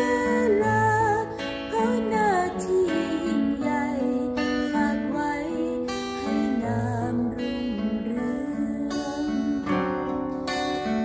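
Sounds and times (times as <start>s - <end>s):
strummed acoustic guitar: 0.0s - 11.0s
woman singing: 0.0s - 11.0s.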